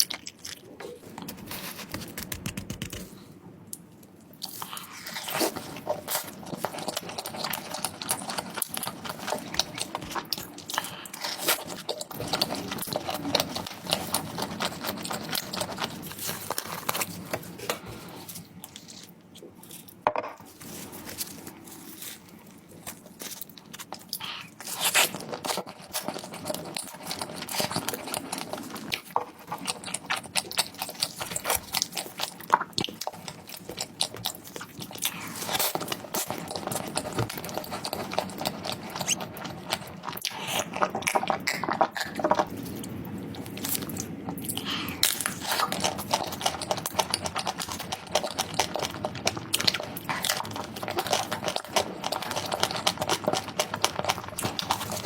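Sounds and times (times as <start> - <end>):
food being chewed crunchily: 0.0 - 55.0.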